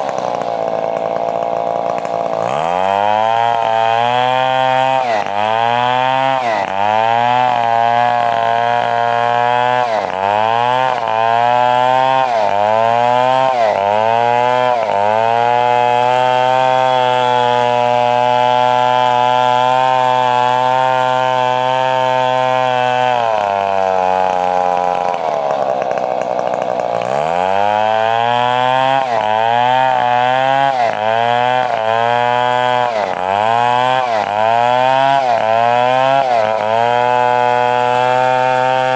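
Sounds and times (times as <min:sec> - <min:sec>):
chainsaw sawing wood: 0:00.0 - 0:38.9.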